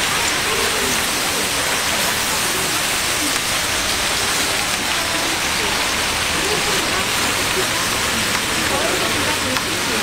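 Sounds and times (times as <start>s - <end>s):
food frying sizzle: 0.0s - 10.0s.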